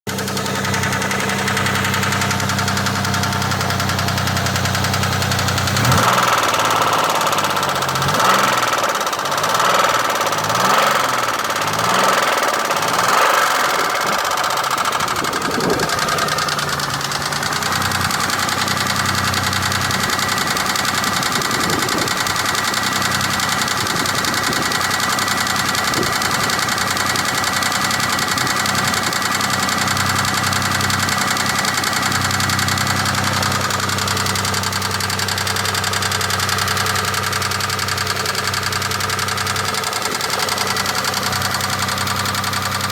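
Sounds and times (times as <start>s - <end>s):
car engine knocking: 0.0s - 42.9s.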